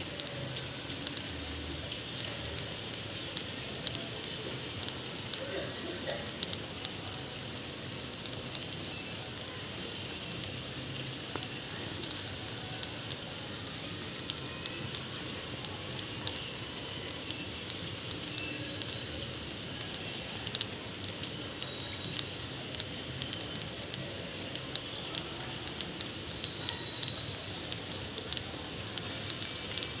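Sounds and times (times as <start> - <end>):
raindrops ticking on a surface: 0.0 - 30.0
steady rain falling: 0.0 - 30.0.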